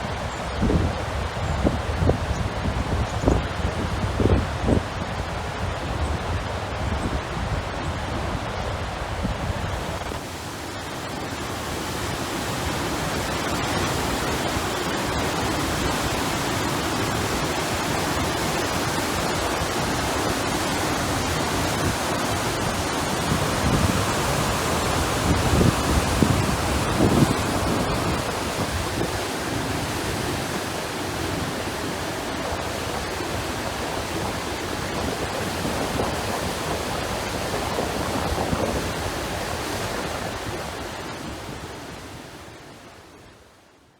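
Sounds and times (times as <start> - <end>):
wind buffeting microphone: 0.0 - 42.2
rushing water roar: 0.0 - 43.8.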